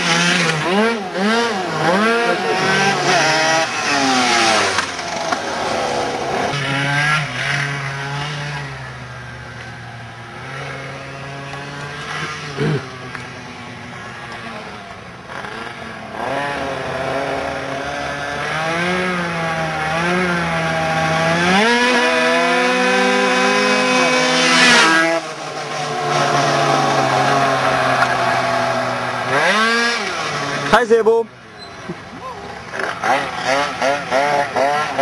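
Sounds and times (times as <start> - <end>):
high-revving two-stroke engines: 0.0 - 35.0.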